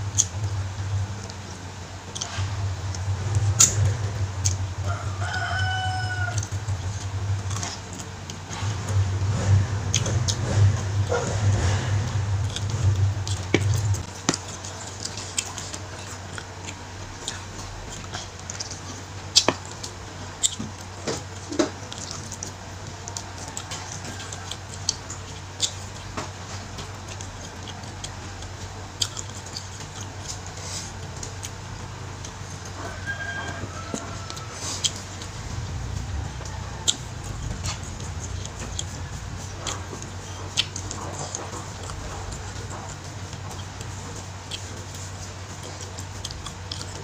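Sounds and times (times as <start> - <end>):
chewing with mouth clicks: 0.0 - 47.0
steady low hum: 0.0 - 47.0.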